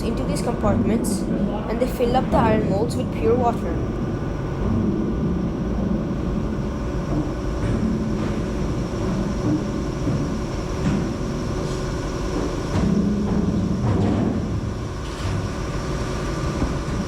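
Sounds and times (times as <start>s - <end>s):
machinery rumble and hum: 0.0s - 17.0s.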